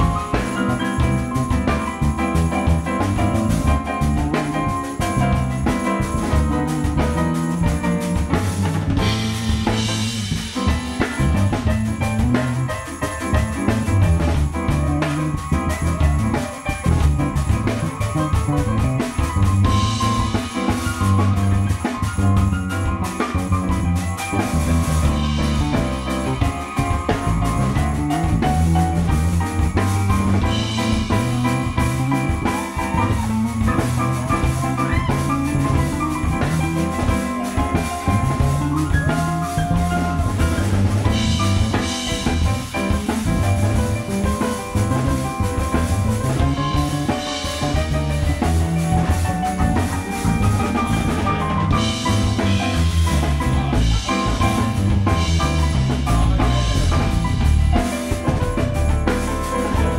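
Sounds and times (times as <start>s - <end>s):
drum kit with cymbals: 0.0s - 59.9s
electric bass line: 0.0s - 59.9s
keyboards: 0.0s - 59.9s.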